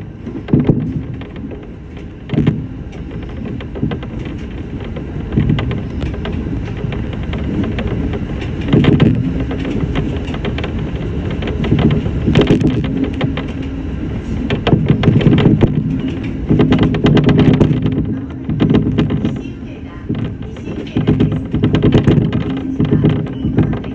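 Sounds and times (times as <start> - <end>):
electric train wheels rumbling on rail: 0.0 - 23.9
train clicking and clatter: 0.0 - 23.9.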